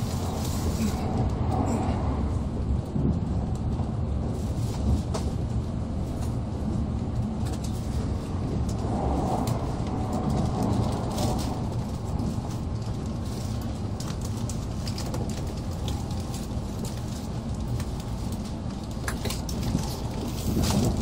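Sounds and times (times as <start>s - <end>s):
train cabin rumble: 0.0s - 21.0s.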